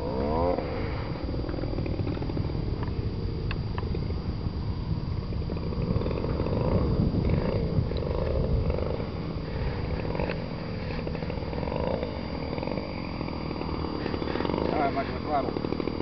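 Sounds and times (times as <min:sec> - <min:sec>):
model airplane engine droning: 0:00.0 - 0:16.0.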